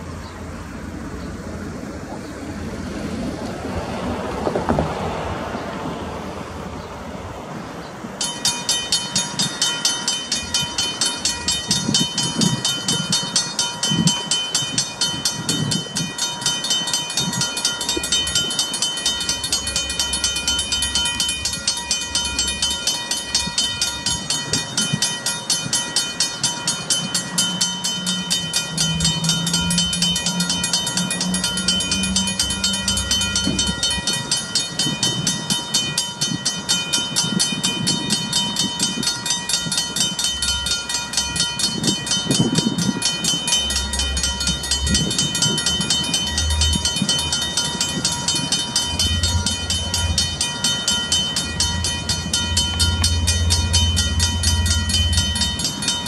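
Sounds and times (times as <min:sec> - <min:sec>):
diesel locomotive engine: 0:00.0 - 0:56.0
level crossing warning bells: 0:08.0 - 0:56.0.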